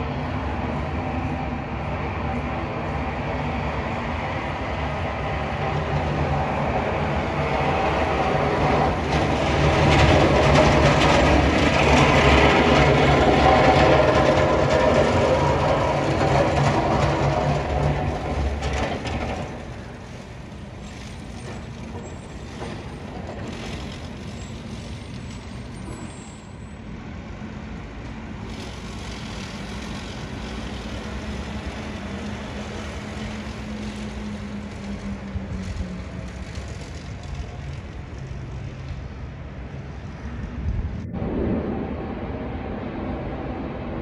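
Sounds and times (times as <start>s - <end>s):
heavy truck engine rumble: 0.0s - 44.0s.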